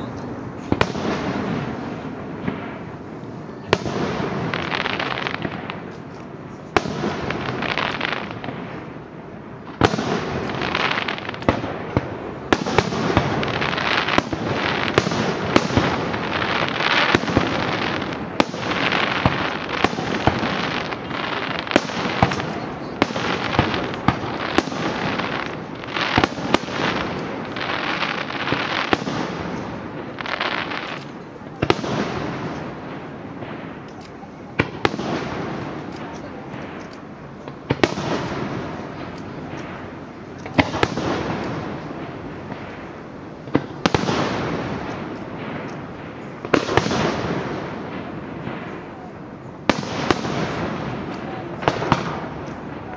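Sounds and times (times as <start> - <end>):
crackle of falling fireworks: 0.0 - 52.9
fireworks bursting: 0.0 - 52.9.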